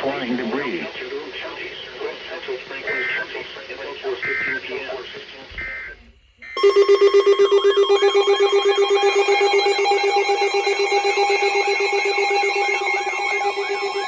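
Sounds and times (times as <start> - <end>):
steady high alarm tone: 0.0 - 14.0
fast-pulsing low alarm tone: 2.3 - 14.0.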